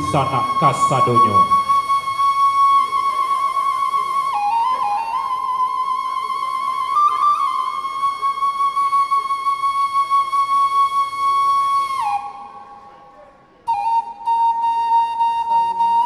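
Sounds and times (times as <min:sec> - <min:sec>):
solo flute-like wind instrument: 0:00.0 - 0:16.0.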